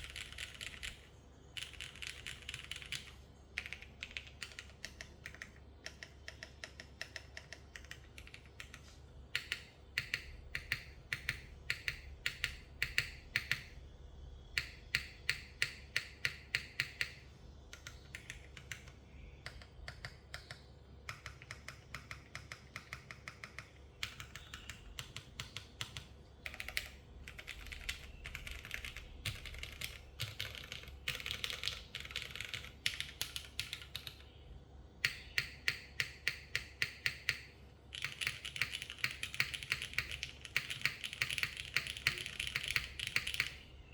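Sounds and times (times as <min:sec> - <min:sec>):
typing on mechanical keyboard: 0:00.0 - 0:13.7, 0:14.6 - 0:34.3, 0:35.0 - 0:43.6.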